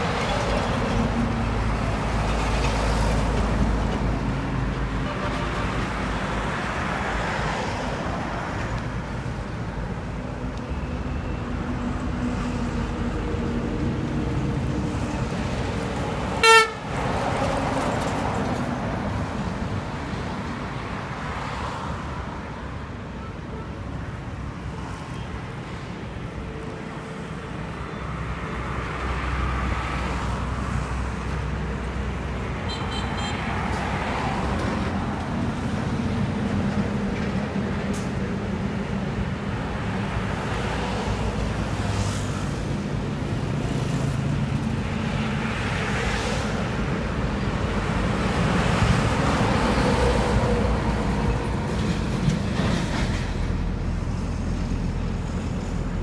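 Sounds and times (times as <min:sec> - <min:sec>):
highway traffic passing: 0:00.0 - 0:56.0.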